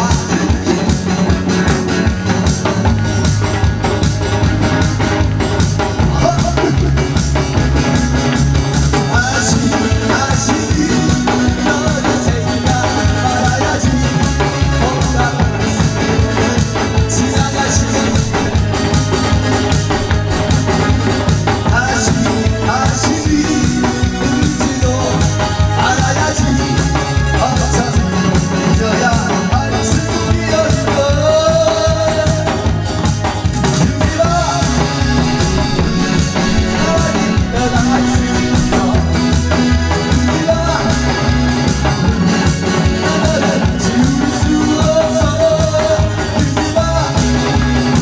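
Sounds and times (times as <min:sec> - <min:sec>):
instrumental music with drums and bass: 0:00.0 - 0:48.0.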